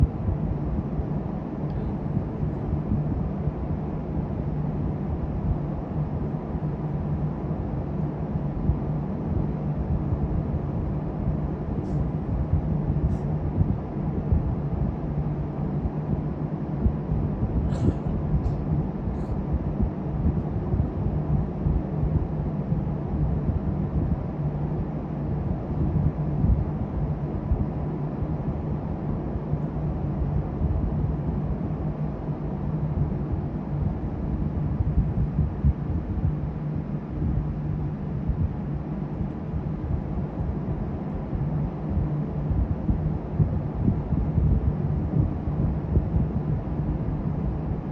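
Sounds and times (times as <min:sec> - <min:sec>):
vehicle rumble and hum: 0:00.0 - 0:47.9.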